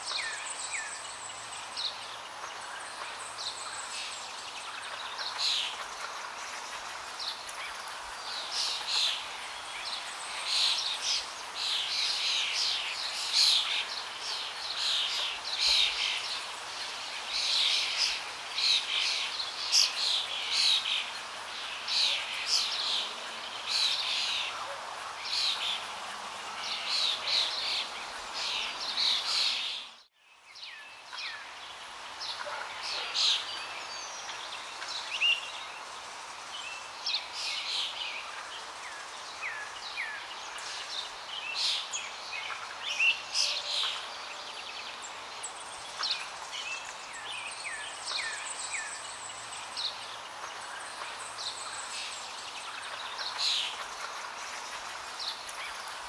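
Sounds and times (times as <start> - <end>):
faint steady hiss: 0.0 - 56.0
small birds chirping: 0.0 - 56.0.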